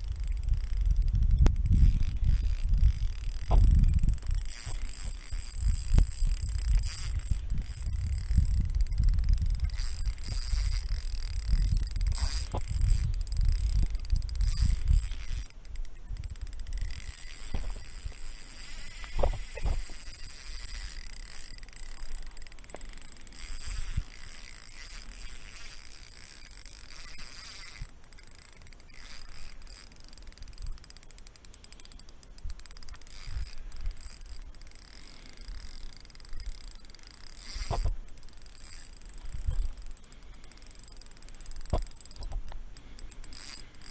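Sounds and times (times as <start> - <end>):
fishing reel clicking rapidly: 0.0 - 43.9
hands handling rod and reel: 0.2 - 43.9.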